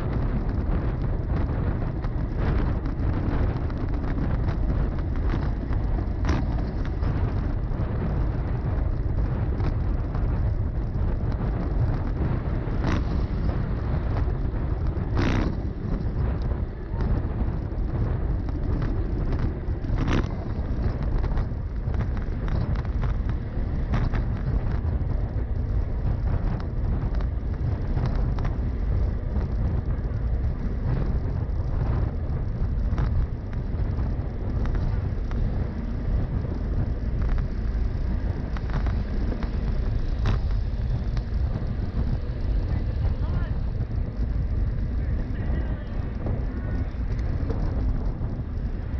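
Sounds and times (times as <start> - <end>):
bicycle clicks and rattles: 0.0 - 48.9
wind rumble on microphone: 0.0 - 48.9.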